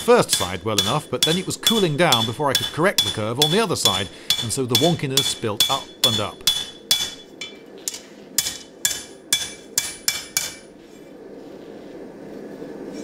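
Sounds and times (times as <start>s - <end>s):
steady low rush: 0.0s - 12.9s
hammer striking metal on anvil: 0.2s - 10.7s.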